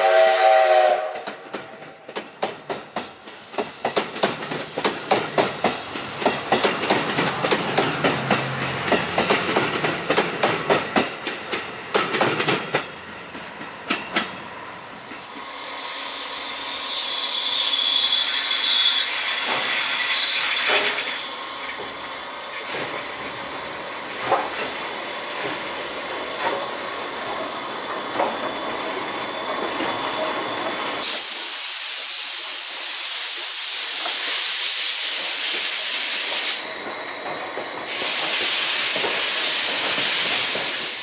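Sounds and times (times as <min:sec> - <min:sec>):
steam venting rushing hiss: 0:00.0 - 0:01.2, 0:02.6 - 0:12.5, 0:14.5 - 0:41.0
steam locomotive steady hiss: 0:00.0 - 0:41.0.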